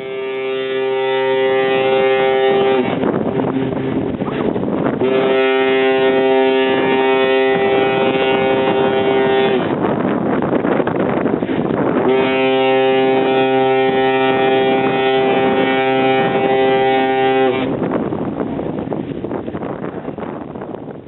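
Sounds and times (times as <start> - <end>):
ship's horn blast: 0.0 - 19.1
wind on microphone: 0.0 - 21.0.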